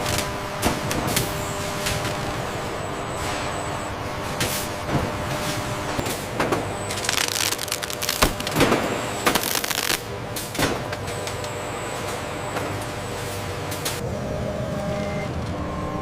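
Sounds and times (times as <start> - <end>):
steady machine hum: 0.0 - 15.2.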